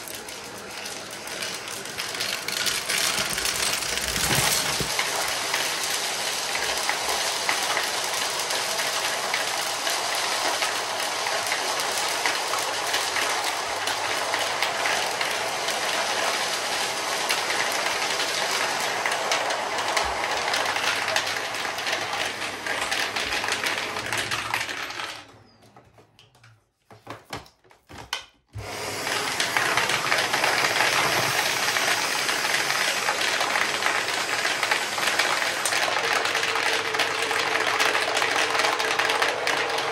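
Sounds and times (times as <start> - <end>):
vacuum motor winding down: 0.0 - 25.3, 28.6 - 39.9
vacuum cleaner running: 0.0 - 25.8, 28.5 - 39.9.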